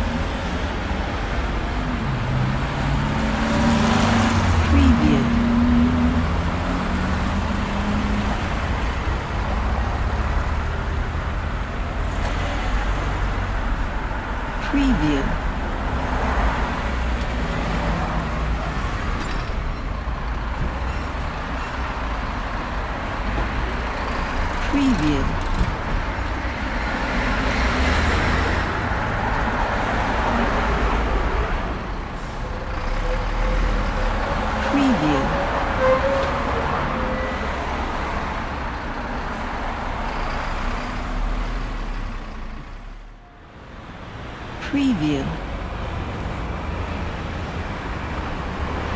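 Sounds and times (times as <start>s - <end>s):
passing car engines rumbling: 0.0s - 48.9s
road noise: 0.0s - 48.9s.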